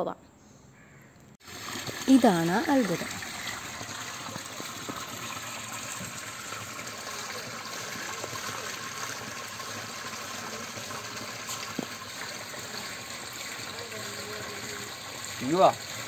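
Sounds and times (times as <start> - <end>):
water gushing into a basin: 1.4 - 16.0
water spilling through a spout: 1.4 - 16.0.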